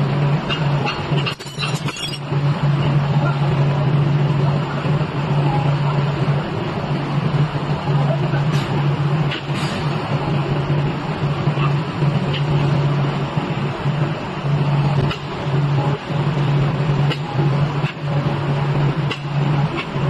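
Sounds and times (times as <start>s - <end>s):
noisy background: 0.0s - 20.0s.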